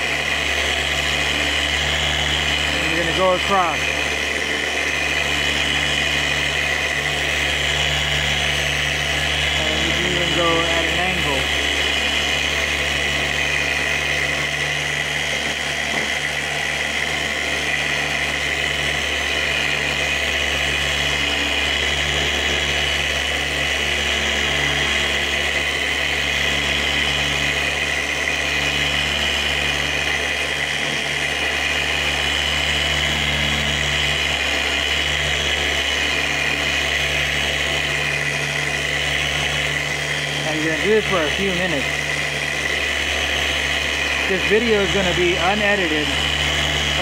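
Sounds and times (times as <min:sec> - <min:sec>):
orbital polisher sanding plastic: 0:00.0 - 0:47.0.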